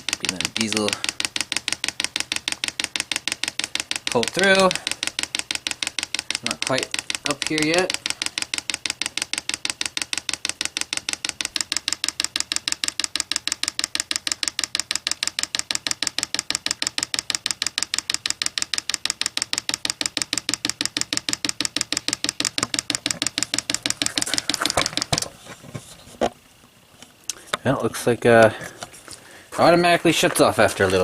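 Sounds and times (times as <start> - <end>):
fuel pump clicking rapidly: 0.0 - 25.3.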